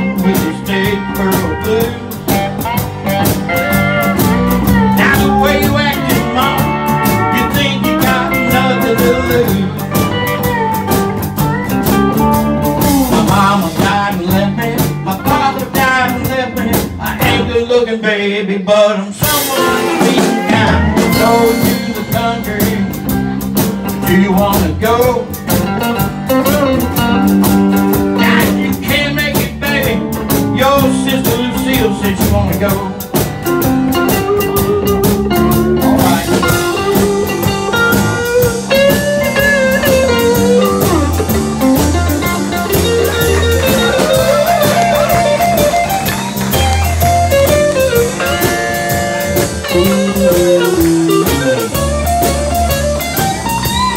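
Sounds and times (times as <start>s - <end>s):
pedal steel guitar: 0.0s - 17.5s, 19.5s - 53.9s
electric guitar: 0.0s - 17.9s, 19.2s - 53.9s
drum kit: 0.0s - 18.0s, 19.0s - 53.9s
electric bass: 0.0s - 53.9s.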